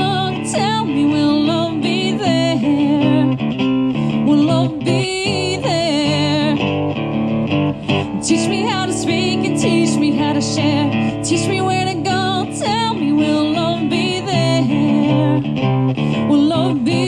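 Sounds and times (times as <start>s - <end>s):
woman singing with vibrato: 0.0s - 6.9s, 7.8s - 17.0s
acoustic guitar: 0.0s - 17.0s.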